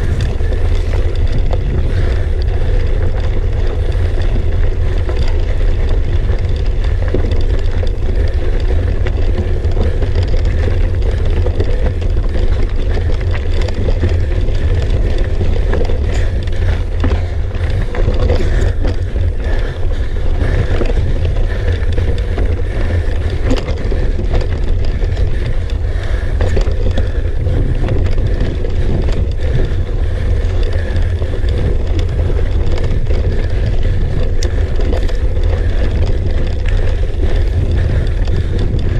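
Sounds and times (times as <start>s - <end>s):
bike tyres clicking on rocks: 0.0s - 38.9s
wind buffeting microphone: 0.0s - 38.9s.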